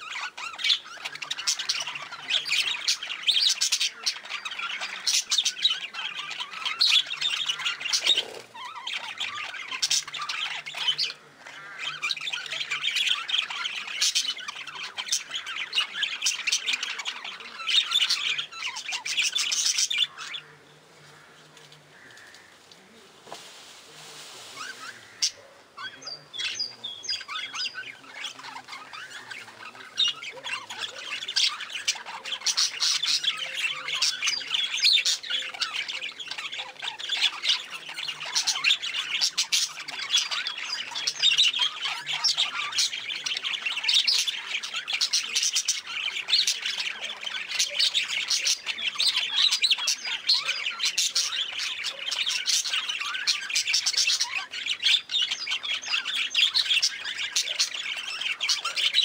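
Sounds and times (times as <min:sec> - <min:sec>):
budgerigars chattering: 0:00.0 - 0:23.0, 0:24.5 - 0:59.0.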